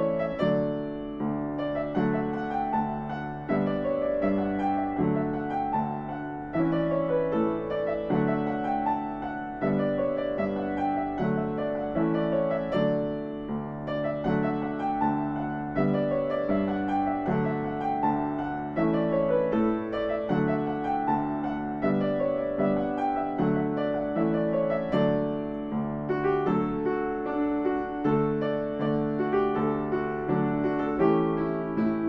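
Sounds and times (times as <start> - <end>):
slow gentle piano music: 0.0 - 32.0.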